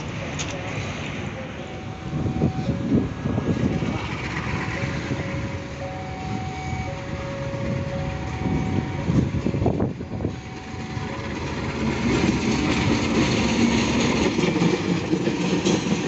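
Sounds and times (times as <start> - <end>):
diesel locomotive rumble: 0.0 - 16.0.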